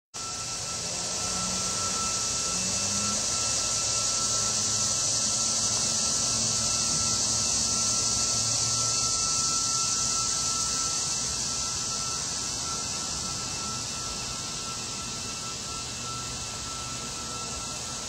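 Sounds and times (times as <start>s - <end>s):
thin steady whine: 0.1s - 18.0s
high-pitched hiss: 0.2s - 18.0s.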